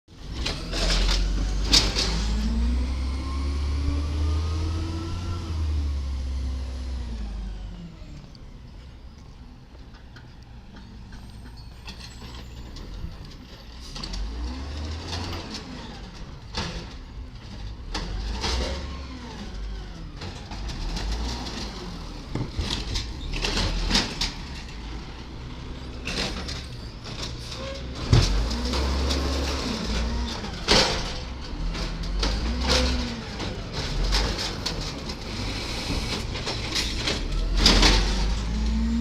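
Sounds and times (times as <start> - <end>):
garbage truck engine revving: 0.2 - 7.8, 13.8 - 16.4, 17.8 - 39.0.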